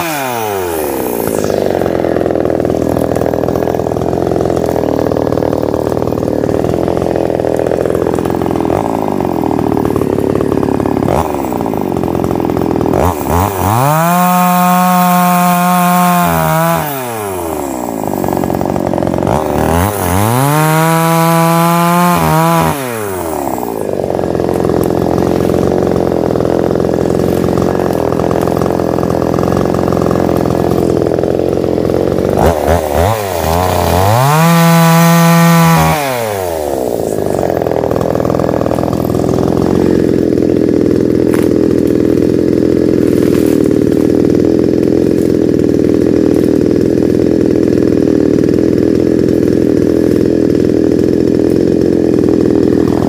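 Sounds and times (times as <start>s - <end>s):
chainsaw cutting log: 0.0s - 53.0s
chainsaw idling: 0.0s - 53.0s.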